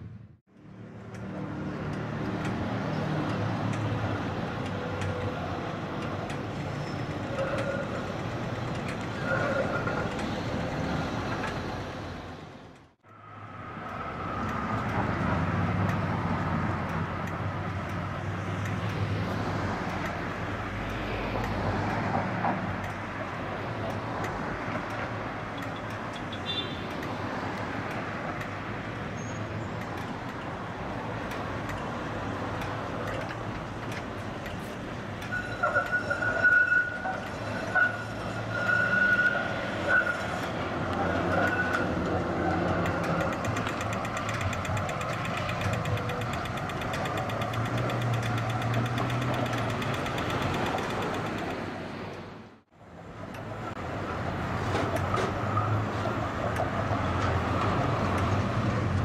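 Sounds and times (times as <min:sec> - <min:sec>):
city street traffic hum: 0:00.0 - 0:59.0
trams running: 0:00.7 - 0:12.9, 0:13.5 - 0:52.4, 0:53.0 - 0:59.0.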